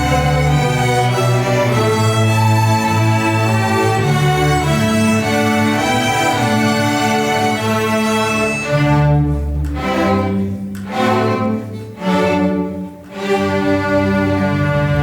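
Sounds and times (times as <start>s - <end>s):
cellos and basses low notes: 0.0s - 15.0s
string orchestra playing: 0.0s - 15.0s.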